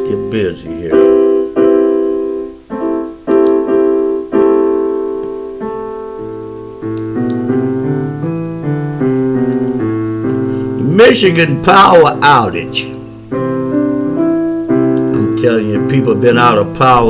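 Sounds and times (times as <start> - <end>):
low piano bass line: 0.0 - 17.0
piano chords: 0.0 - 17.0.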